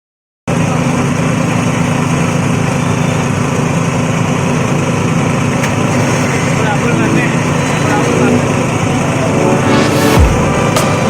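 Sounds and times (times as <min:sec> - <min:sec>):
forage chopper machine running: 0:00.5 - 0:11.0.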